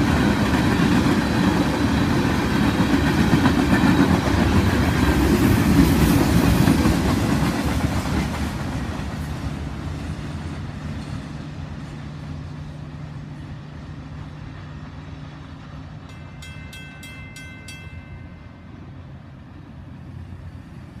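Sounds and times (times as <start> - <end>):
freight train rumbling and clacking: 0.0 - 21.0.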